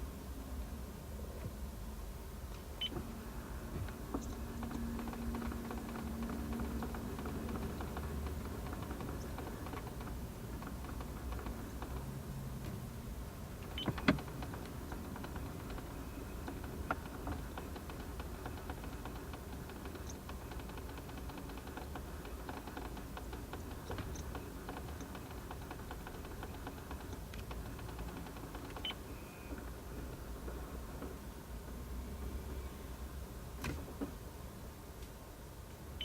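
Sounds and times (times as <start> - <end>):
faint ticking motor: 2.4 - 32.7.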